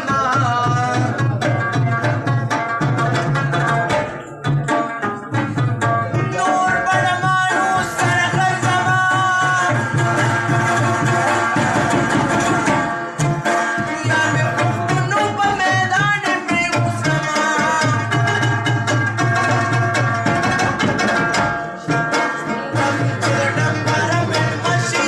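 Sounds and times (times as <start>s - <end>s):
tabla drumming: 0.0s - 25.0s.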